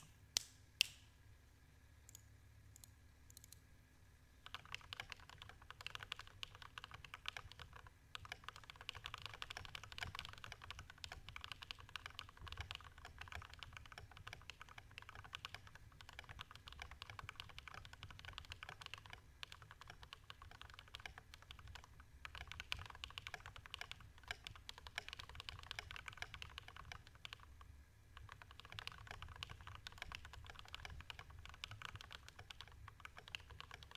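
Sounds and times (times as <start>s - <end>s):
mechanical keyboard typing: 2.8s - 3.6s, 4.4s - 33.9s.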